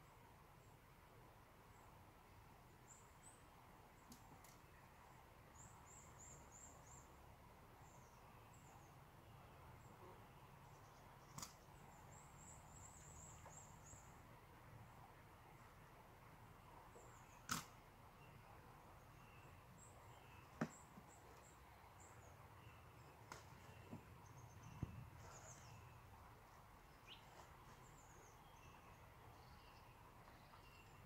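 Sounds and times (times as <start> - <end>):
faint birdsong: 0.0 - 31.0.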